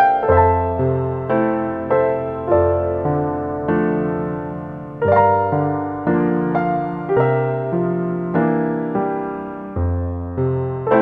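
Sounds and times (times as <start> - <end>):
soft keyboard piano chords: 0.0 - 11.0.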